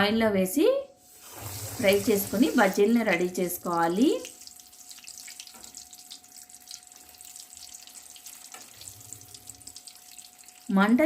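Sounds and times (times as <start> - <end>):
battered food deep-frying in oil: 1.0 - 11.0.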